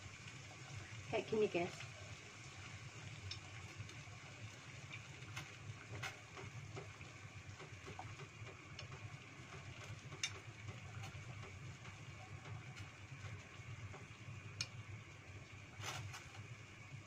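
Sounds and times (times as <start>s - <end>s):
gas burner rumble: 0.0s - 17.0s
water boiling in a pot: 0.0s - 17.0s.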